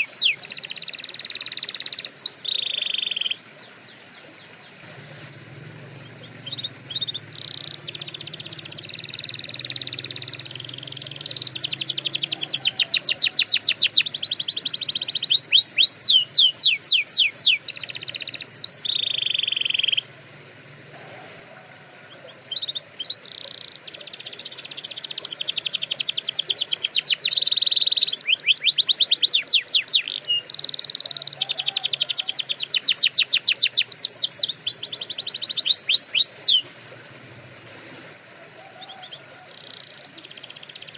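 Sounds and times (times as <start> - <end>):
canary singing trills: 0.0 - 20.2, 22.0 - 40.9.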